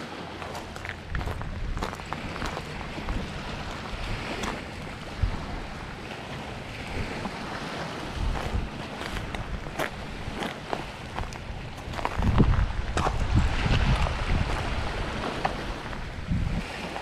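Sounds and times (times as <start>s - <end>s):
waves lapping on rocky shore: 0.0s - 17.0s
wind rumbling on microphone: 0.0s - 17.0s
footsteps crunching on gravel: 0.3s - 14.8s.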